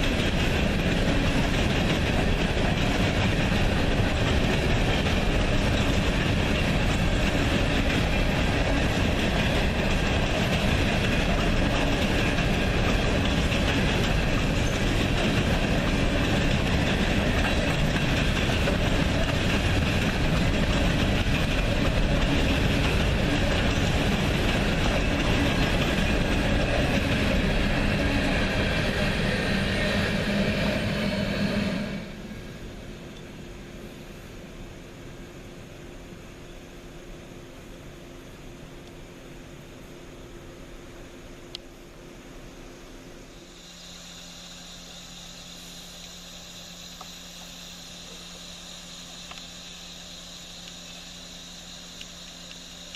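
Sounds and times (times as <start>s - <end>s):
train wheels rumbling on rail: 0.0s - 41.6s, 43.2s - 52.9s.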